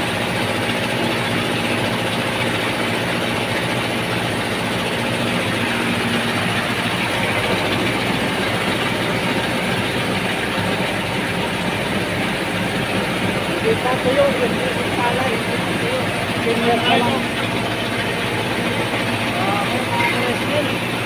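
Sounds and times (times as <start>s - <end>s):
rice mill humming: 0.0s - 21.0s.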